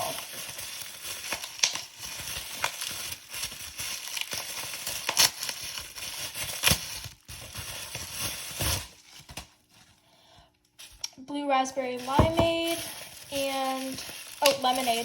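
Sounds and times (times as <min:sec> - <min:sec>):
plastic packaging crinkling: 0:00.0 - 0:10.0, 0:11.8 - 0:15.0.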